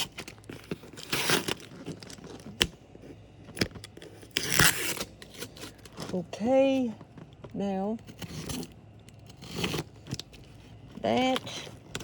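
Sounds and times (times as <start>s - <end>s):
cardboard tearing: 0.0s - 6.3s, 8.0s - 12.0s.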